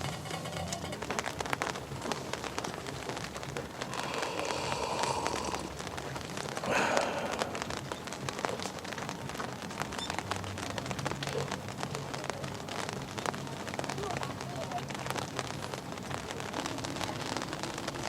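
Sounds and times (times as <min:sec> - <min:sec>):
raindrops ticking on a surface: 0:00.0 - 0:18.0.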